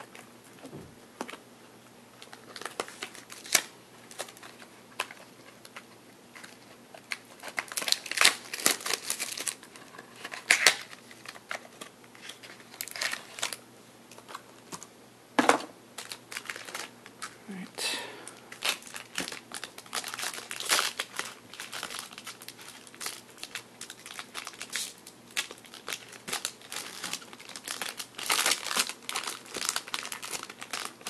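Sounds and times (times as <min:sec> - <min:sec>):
plastic shrink-wrap tearing and crumpling: 0:02.2 - 0:14.4, 0:16.0 - 0:17.4, 0:18.5 - 0:31.0.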